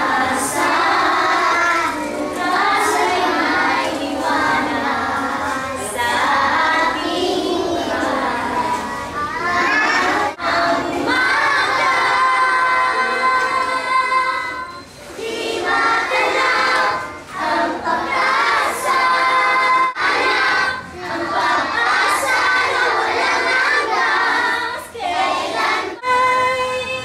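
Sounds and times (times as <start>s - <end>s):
children singing together: 0.0s - 27.0s.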